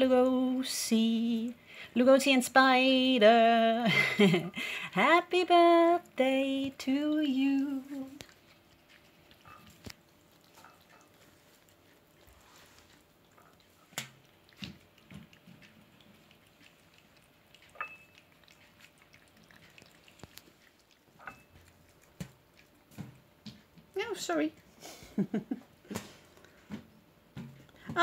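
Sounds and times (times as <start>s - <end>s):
cats chewing food: 4.1s - 28.0s.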